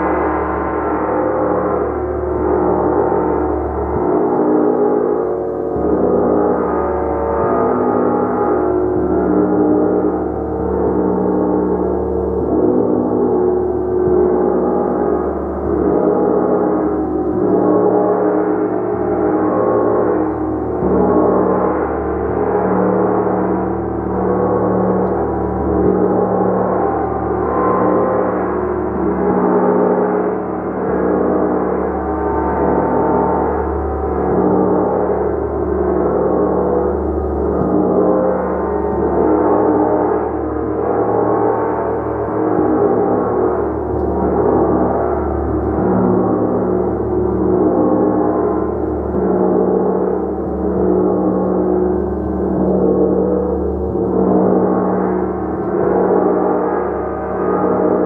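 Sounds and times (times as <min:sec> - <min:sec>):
gong played continuously: 0:00.0 - 0:58.0.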